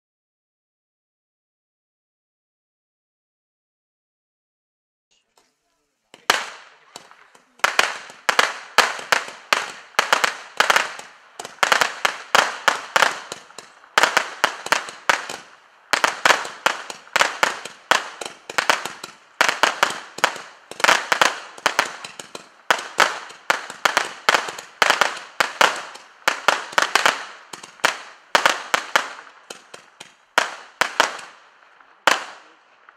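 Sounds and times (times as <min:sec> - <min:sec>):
firework pops: 0:05.4 - 0:32.9.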